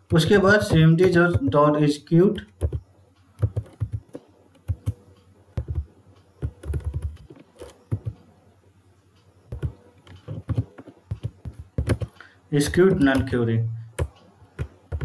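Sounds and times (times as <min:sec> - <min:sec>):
computer keyboard typing: 0:00.0 - 0:08.3, 0:09.5 - 0:15.0.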